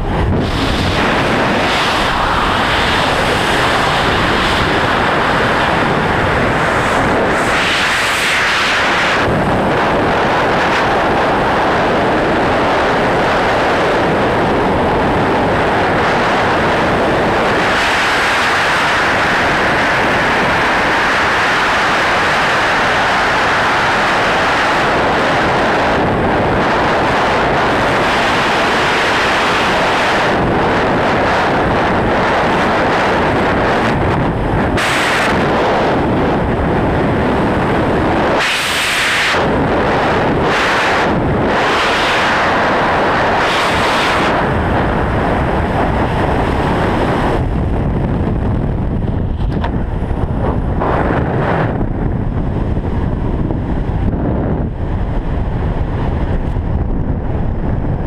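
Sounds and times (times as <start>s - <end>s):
wind roaring over microphone: 0.0s - 58.0s.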